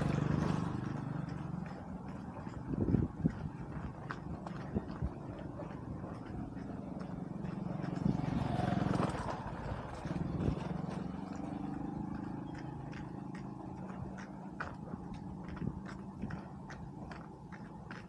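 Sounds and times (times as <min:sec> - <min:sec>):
footsteps on wet dirt road: 0:00.0 - 0:18.0
small engine running: 0:00.0 - 0:18.0.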